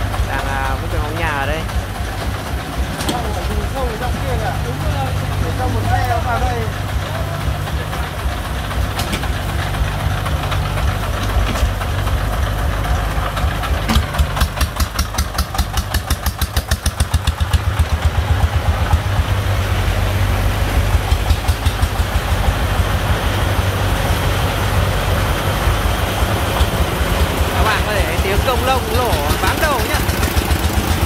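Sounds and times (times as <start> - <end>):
diesel engine chugging: 0.0 - 31.0.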